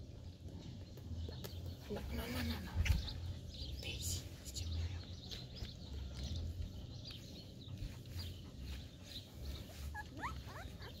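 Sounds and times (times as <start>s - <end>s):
bird chirps: 0.2s - 11.0s.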